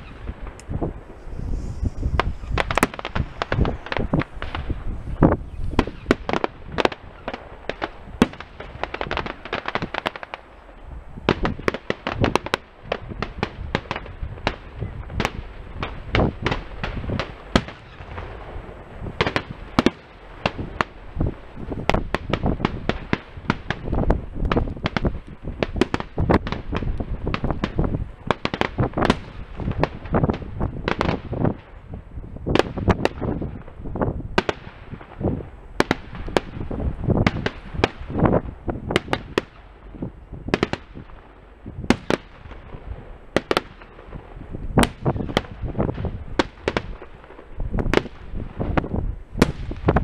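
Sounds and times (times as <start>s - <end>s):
fireworks bursting: 0.0s - 50.0s.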